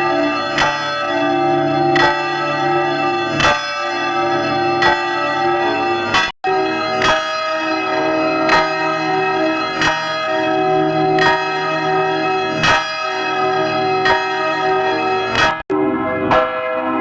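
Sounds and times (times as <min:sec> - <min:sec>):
church bell tolling: 0:00.0 - 0:17.0.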